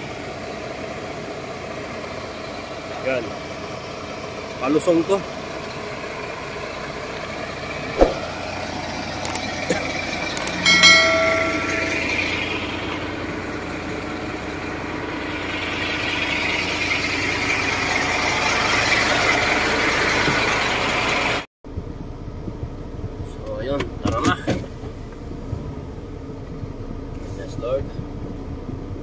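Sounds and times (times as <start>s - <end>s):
rushing vehicle noise: 0.0s - 29.0s
truck engine running: 0.0s - 29.0s.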